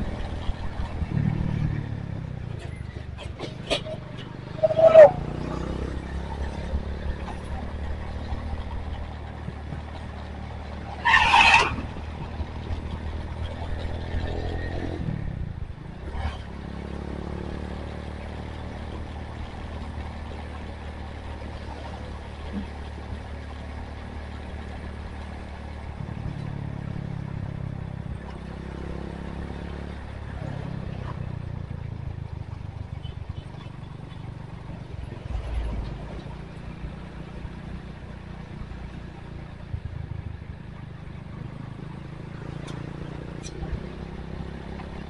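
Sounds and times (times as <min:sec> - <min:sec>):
motorcycle engine running: 0:00.0 - 0:10.9, 0:11.8 - 0:45.0.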